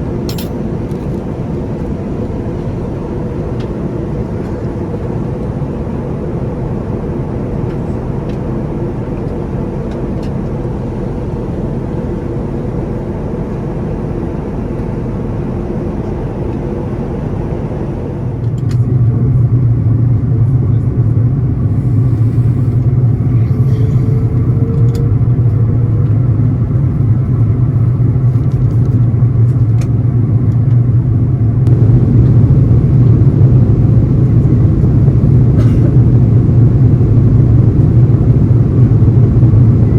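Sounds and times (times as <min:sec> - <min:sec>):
engine drone inside vehicle: 0:00.0 - 0:39.9.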